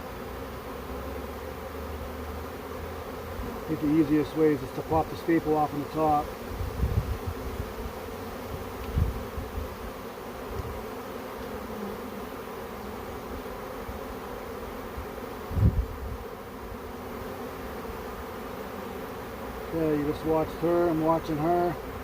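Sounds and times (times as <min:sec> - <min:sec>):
honey bee swarm buzzing: 0:00.0 - 0:22.0.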